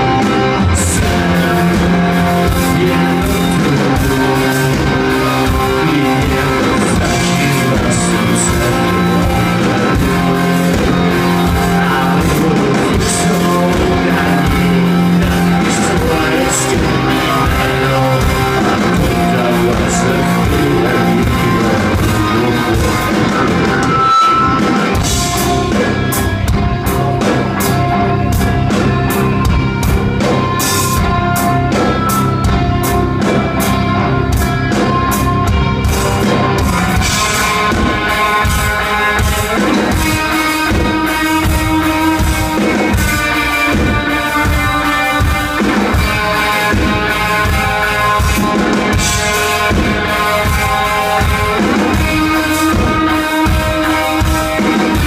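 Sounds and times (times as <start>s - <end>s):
drum kit beating: 0.0s - 55.0s
live rock band playing: 0.0s - 55.0s.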